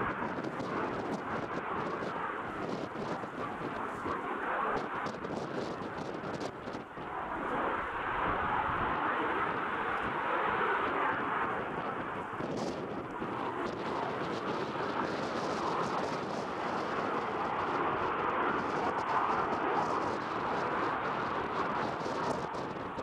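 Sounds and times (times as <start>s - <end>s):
jet engine noise: 0.0s - 23.0s.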